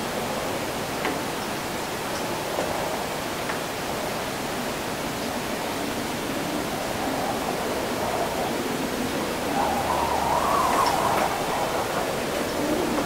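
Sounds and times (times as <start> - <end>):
wind and wet city noise: 0.0 - 13.0.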